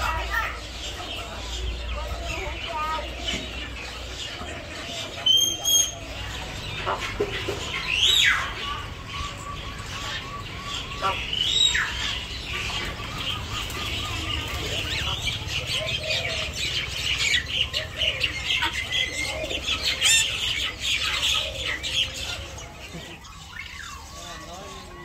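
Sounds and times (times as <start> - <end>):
caged birds chirping: 0.0 - 25.0
loud bird call: 3.3 - 25.0.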